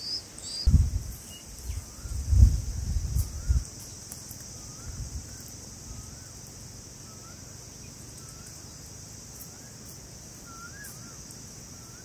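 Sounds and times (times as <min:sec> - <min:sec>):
high-pitched insect drone: 0:00.9 - 0:12.0.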